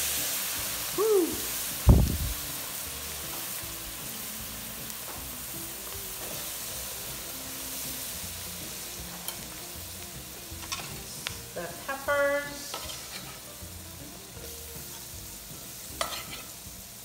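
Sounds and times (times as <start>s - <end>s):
vegetables sizzling in a pot: 0.0s - 17.0s.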